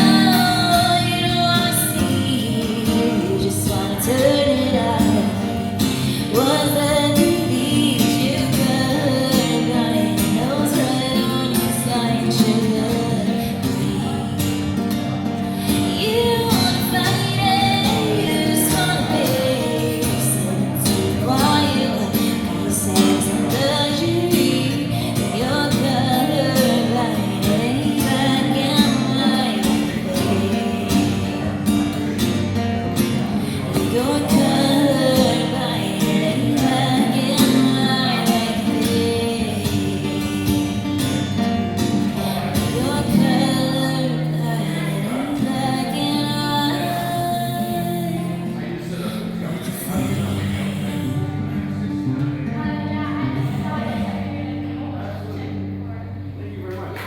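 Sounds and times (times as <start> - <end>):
woman singing: 0.0 - 32.4, 33.0 - 48.7.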